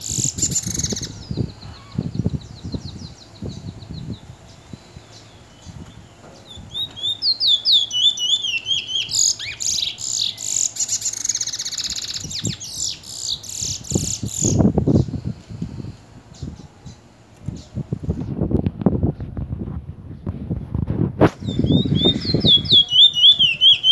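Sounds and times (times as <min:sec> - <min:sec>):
finch singing: 0:00.0 - 0:17.9, 0:21.4 - 0:23.9.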